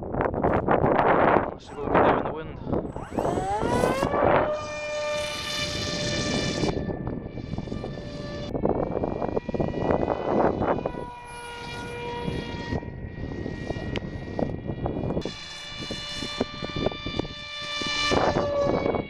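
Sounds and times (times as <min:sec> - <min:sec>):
wind rumble on microphone: 0:00.0 - 0:19.0
model jet motor whining: 0:00.2 - 0:19.0.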